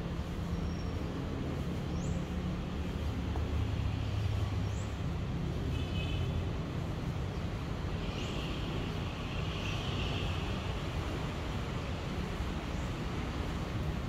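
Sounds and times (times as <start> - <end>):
low rumble of vehicles: 0.0 - 14.0.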